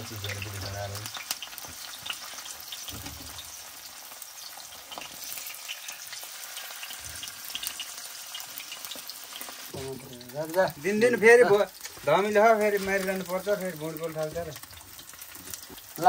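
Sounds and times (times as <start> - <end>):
fish frying in hot oil: 0.0 - 16.0.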